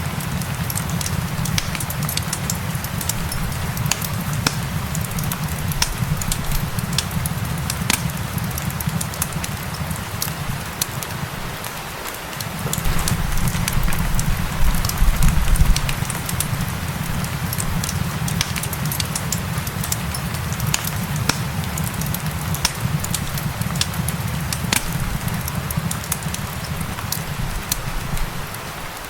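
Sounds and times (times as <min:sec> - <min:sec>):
rain hissing: 0:00.0 - 0:29.0
wood fire crackling: 0:00.0 - 0:29.0.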